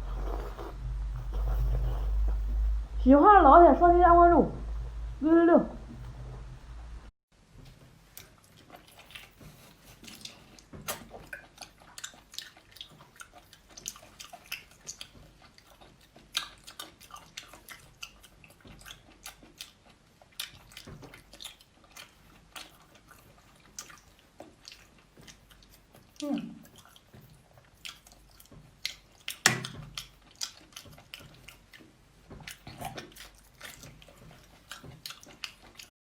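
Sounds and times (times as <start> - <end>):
person chewing food: 0.0 - 2.8, 8.1 - 35.9.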